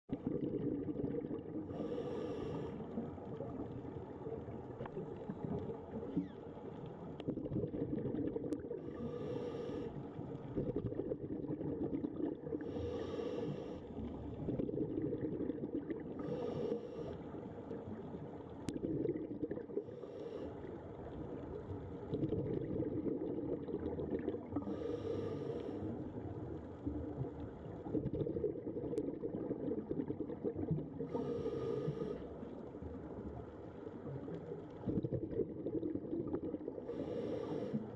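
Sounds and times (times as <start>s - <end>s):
exhaled bubbles gurgling: 0.1s - 37.9s.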